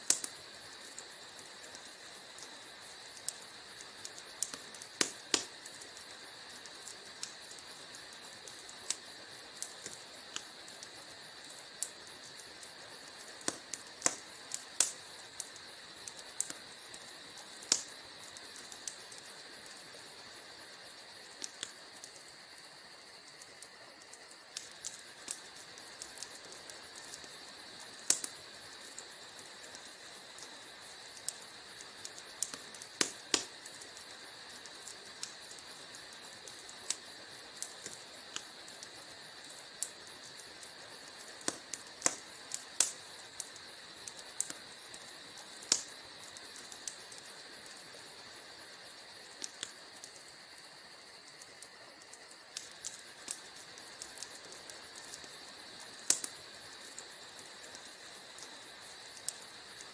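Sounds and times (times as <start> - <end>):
wood fire popping and snapping: 0.0 - 59.9.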